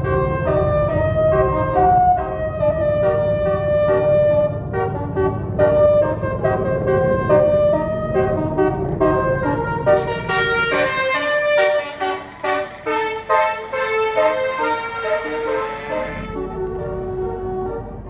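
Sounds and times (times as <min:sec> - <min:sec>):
bus engine rumble: 0:00.0 - 0:18.0
multi-tone air horn melody: 0:00.0 - 0:18.0.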